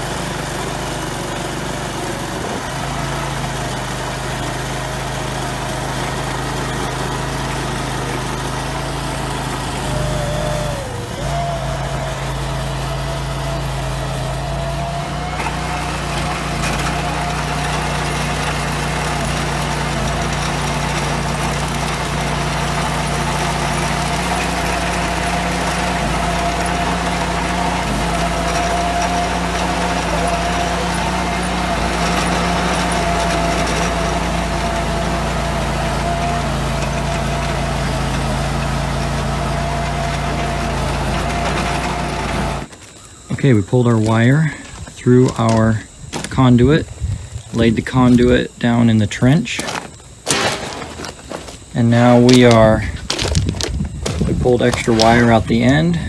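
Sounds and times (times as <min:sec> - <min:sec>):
digging chain cutting soil: 0:00.0 - 0:56.0
trencher engine running: 0:00.0 - 0:56.0.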